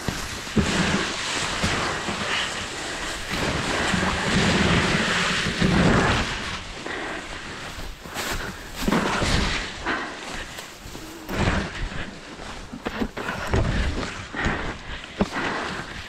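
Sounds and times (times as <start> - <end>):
grass rustling against microphone: 0.0 - 16.0.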